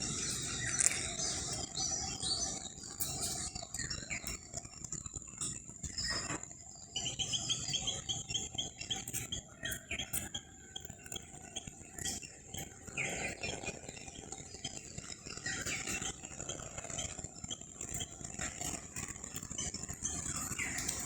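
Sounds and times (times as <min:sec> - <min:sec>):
small birds chirping: 0:00.0 - 0:21.0
steady high-pitched whine: 0:00.0 - 0:21.0.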